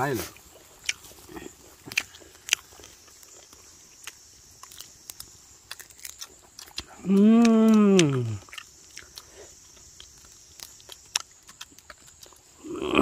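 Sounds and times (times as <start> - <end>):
person chewing crunchy food: 0.3 - 13.0.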